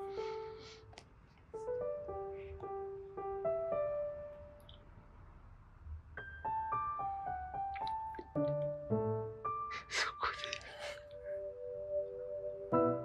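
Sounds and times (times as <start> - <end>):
piano melody: 0.0 - 0.9, 1.5 - 5.0, 6.1 - 13.0.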